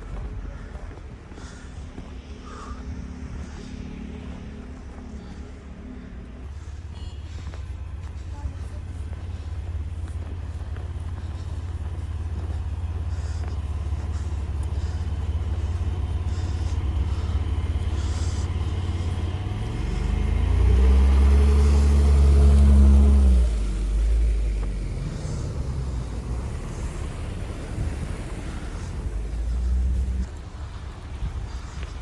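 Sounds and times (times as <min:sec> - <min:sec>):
street traffic rumble: 0:00.0 - 0:32.0
vehicle engine passing close: 0:00.0 - 0:32.0.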